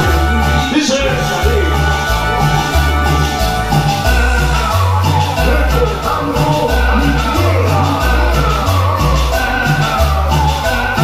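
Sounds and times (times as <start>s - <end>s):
loud dance music over sound system: 0.0s - 11.0s.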